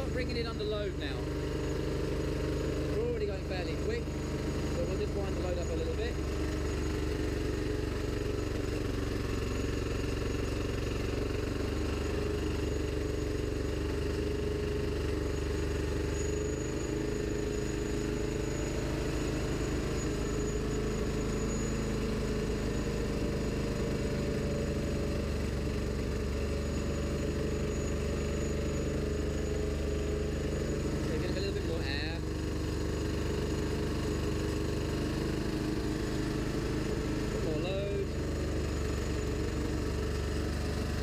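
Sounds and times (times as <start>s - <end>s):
generator engine running: 0.0s - 41.0s.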